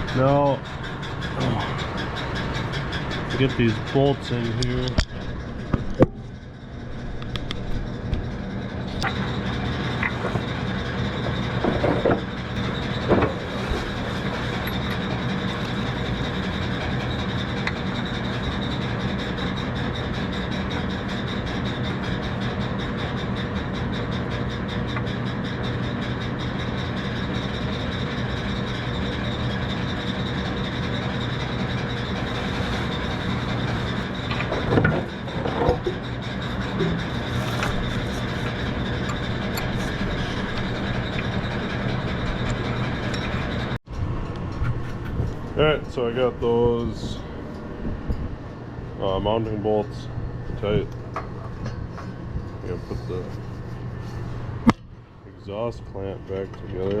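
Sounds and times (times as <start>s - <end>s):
machine humming and rattling: 0.0s - 57.0s.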